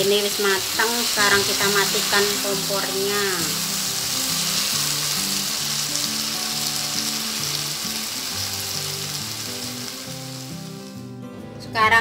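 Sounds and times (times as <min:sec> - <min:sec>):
food sizzling in a wok: 0:00.0 - 0:11.2
light background music: 0:00.0 - 0:12.0.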